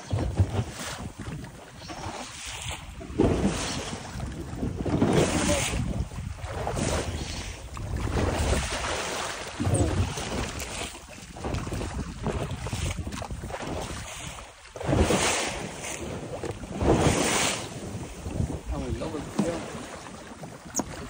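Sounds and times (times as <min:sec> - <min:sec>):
water and boat noise: 0:00.0 - 0:21.0
wind gusting over microphone: 0:00.1 - 0:20.0.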